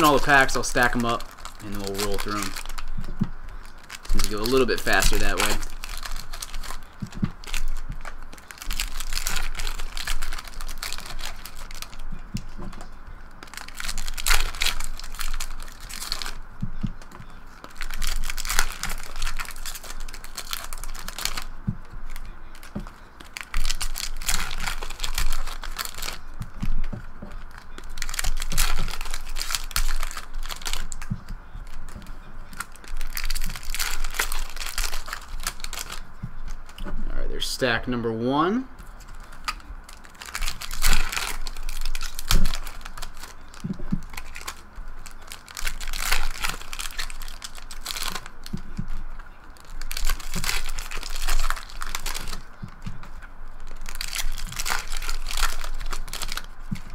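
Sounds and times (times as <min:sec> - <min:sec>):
foil wrappers crinkling and ripping: 0:00.0 - 0:56.9.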